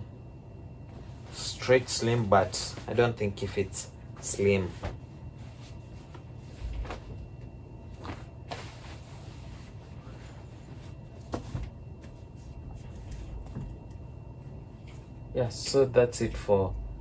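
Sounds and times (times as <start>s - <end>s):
cloth rustling: 0.8s - 15.3s.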